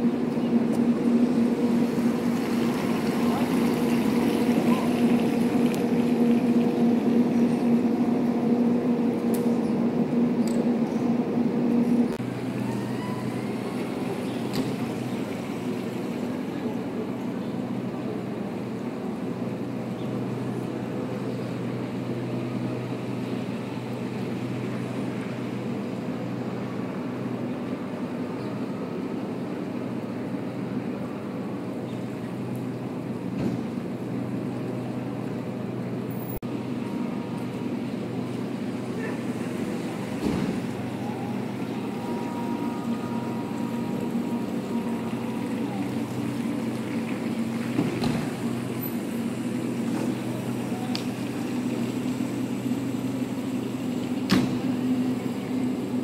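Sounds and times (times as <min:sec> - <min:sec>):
electric cars humming on wet road: 0:00.0 - 0:56.0.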